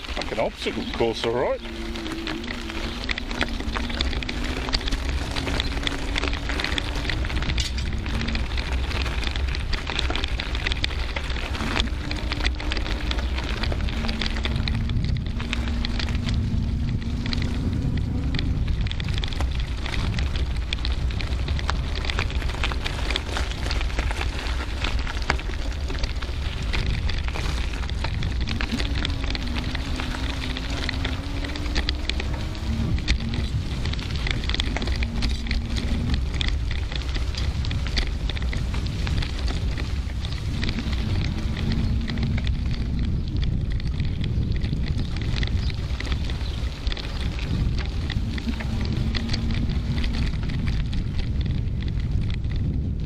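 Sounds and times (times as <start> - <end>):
bicycle tyres on gravel: 0.0 - 53.0
wind on microphone: 0.0 - 53.0.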